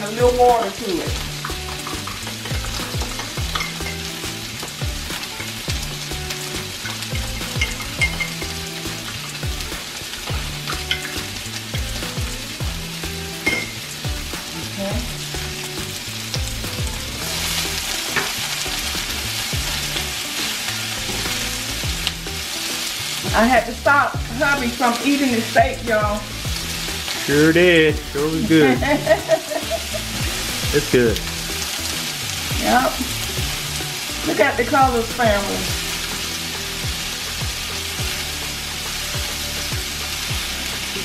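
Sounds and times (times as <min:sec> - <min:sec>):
vegetables sizzling in a frying pan: 0:00.0 - 0:41.0.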